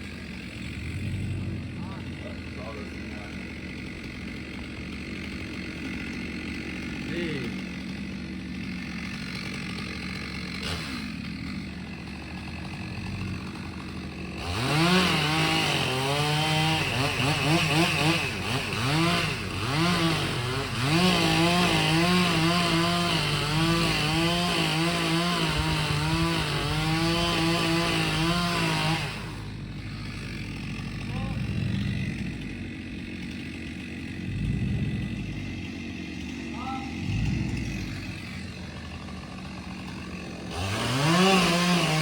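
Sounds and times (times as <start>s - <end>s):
chainsaw cutting wood: 0.0s - 42.0s
chainsaw idling and revving: 0.0s - 42.0s.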